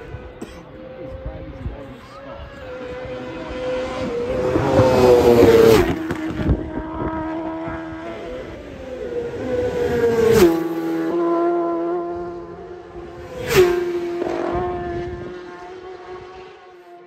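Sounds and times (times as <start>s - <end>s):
motorbikes passing at speed: 0.0s - 17.0s.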